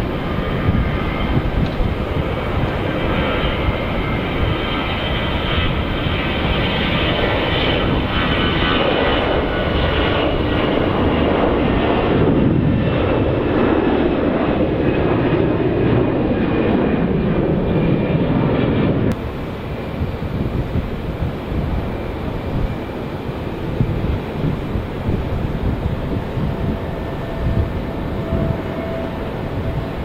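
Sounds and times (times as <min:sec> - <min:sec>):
airliner engines running: 0:00.0 - 0:30.0.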